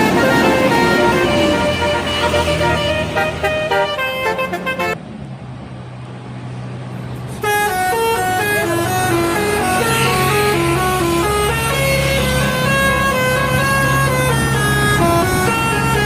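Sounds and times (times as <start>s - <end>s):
bus horn melody: 0.0s - 5.0s, 7.4s - 16.0s
low engine hum: 0.0s - 16.0s.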